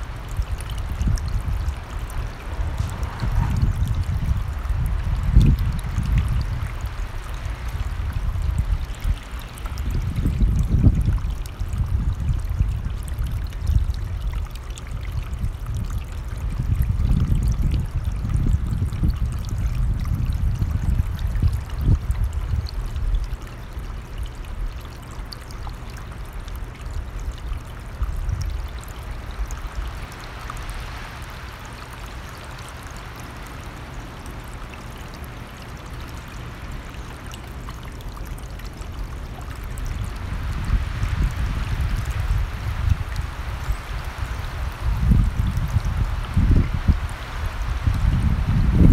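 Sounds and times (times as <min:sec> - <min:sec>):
wind rumbling on microphone: 0:00.0 - 0:24.8, 0:25.9 - 0:36.9, 0:37.9 - 0:48.9
stream flowing: 0:00.0 - 0:48.9.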